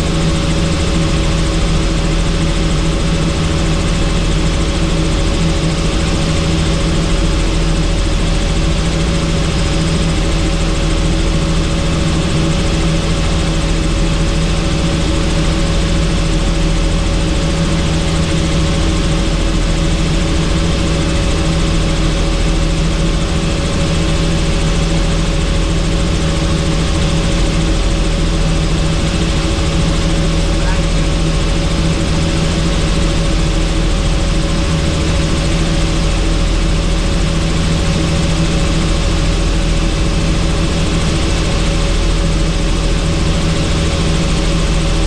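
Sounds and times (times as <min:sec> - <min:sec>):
helicopter engine and rotor drone: 0:00.0 - 0:45.0.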